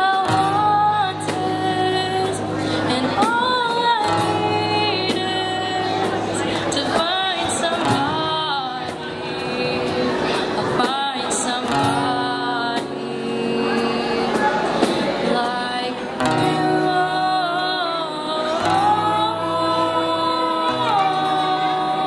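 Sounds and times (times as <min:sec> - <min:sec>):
acoustic guitar chords: 0:00.0 - 0:22.0
woman singing: 0:00.0 - 0:22.0.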